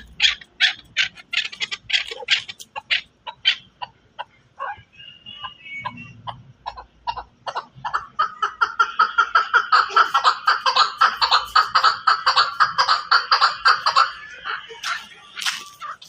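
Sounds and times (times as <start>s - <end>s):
partridge clucking calls: 0.0s - 16.0s.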